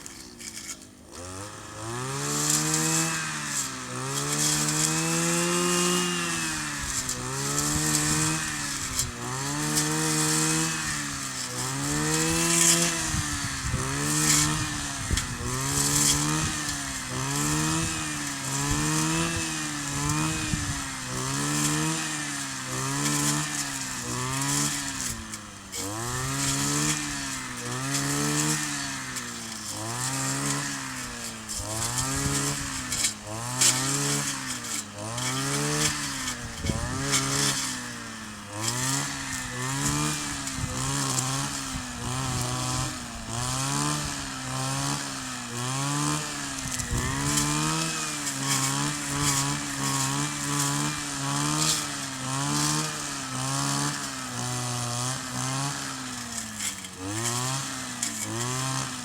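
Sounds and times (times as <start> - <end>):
brush cutter engine revving: 0.0 - 59.0.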